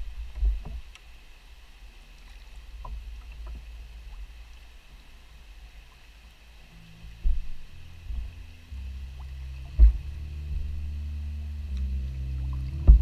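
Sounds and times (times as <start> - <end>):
kayak moving over water: 0.0 - 13.0
paddle drips and splashes: 0.0 - 13.0.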